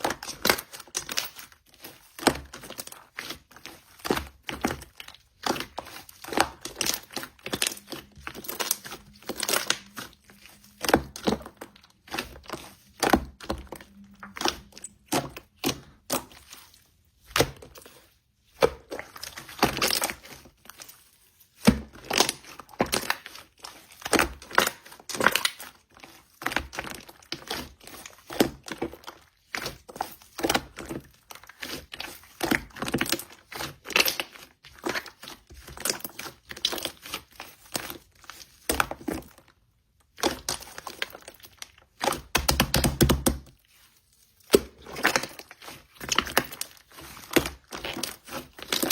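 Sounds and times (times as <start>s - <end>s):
slime crackling and popping: 0.1s - 16.6s, 21.6s - 39.2s, 40.1s - 43.6s, 44.4s - 48.9s.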